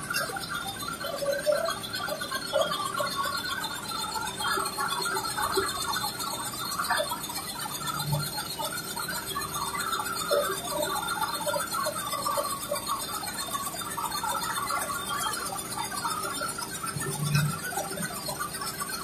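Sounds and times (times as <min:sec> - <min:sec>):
faint machine hum: 0:00.0 - 0:19.0
quilting machine chattering: 0:00.0 - 0:19.0.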